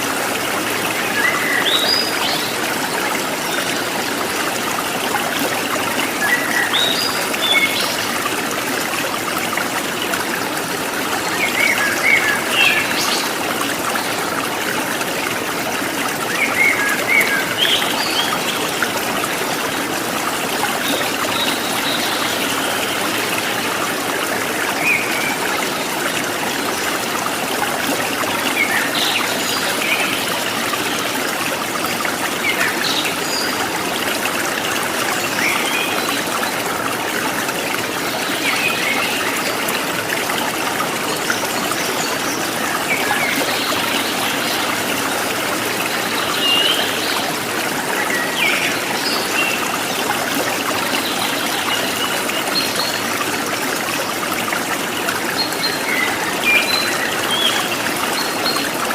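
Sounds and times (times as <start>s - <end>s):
stream water trickling: 0.0s - 58.9s.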